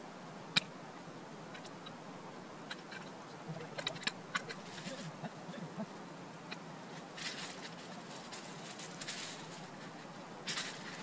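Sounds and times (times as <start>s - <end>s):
steady faint hiss: 0.0s - 11.0s.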